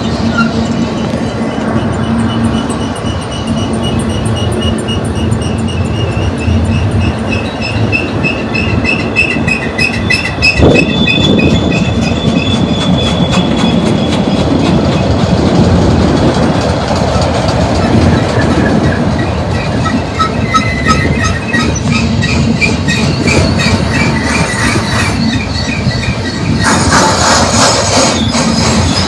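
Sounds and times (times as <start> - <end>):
high-pitched wheel squeal: 0.0 - 14.6, 17.8 - 29.0
train wheels rumbling on rail: 0.0 - 29.0.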